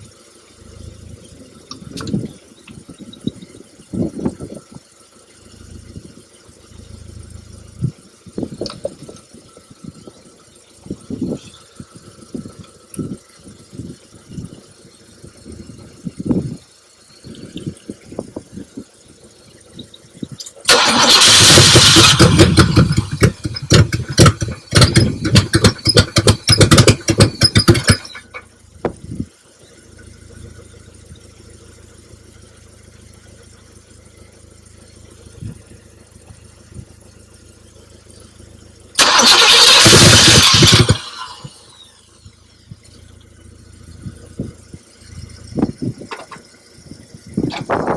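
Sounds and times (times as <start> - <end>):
car engine starting roughly: 0.0 - 47.9.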